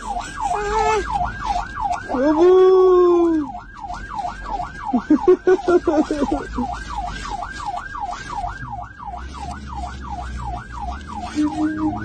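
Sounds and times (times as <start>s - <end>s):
emergency vehicle siren: 0.0s - 12.0s.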